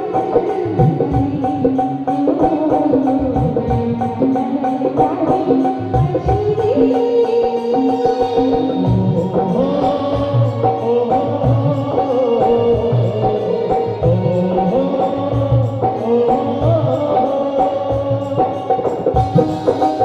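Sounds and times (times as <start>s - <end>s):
steady drum beat: 0.0s - 20.0s.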